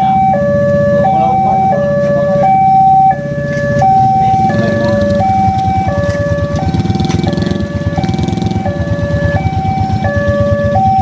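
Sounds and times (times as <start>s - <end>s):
motorcycle engines idling: 0.0s - 11.0s
two-tone crossing alarm: 0.0s - 11.0s.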